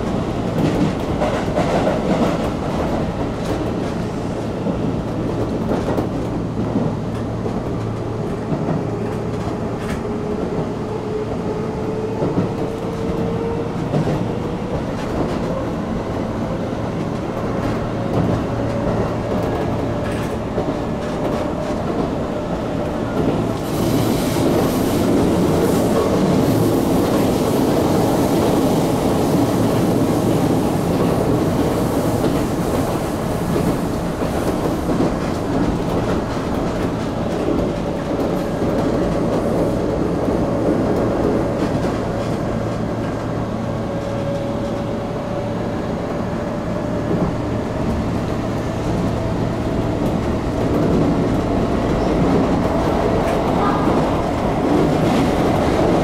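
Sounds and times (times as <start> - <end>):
clickety-clack over rail joints: 0.0 - 56.0
train wheels rumbling: 0.0 - 56.0.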